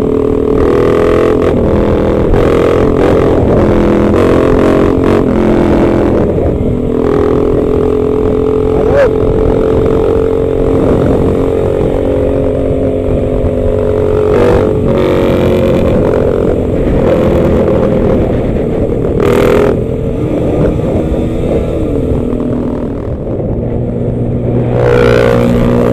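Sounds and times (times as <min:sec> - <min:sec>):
motorcycle engines running: 0:00.0 - 0:25.9
road and wind noise: 0:00.0 - 0:25.9.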